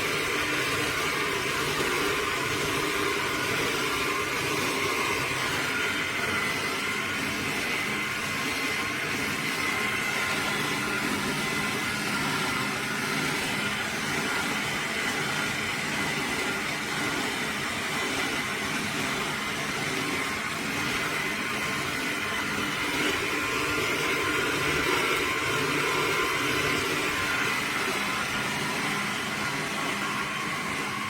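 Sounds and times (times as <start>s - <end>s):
electric juicer motor whirring: 0.0s - 31.0s.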